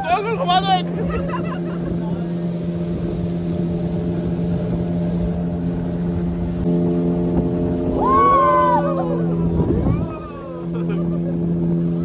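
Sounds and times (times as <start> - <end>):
rushing water noise: 0.0 - 12.0
speedboat engine running: 0.0 - 12.0.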